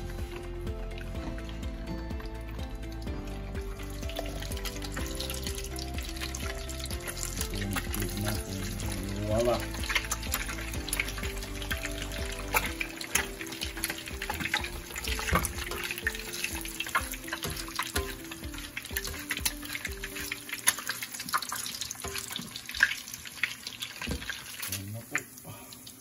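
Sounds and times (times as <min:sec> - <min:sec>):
egg frying in hot oil: 0:00.0 - 0:26.0.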